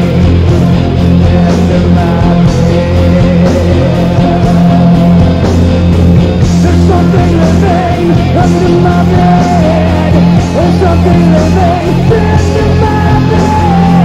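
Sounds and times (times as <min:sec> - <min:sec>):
hard rock band playing: 0:00.0 - 0:14.0.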